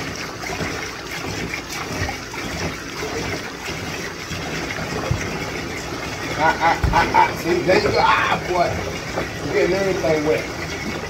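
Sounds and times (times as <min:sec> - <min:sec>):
water trickling in bathtub: 0:00.0 - 0:11.0.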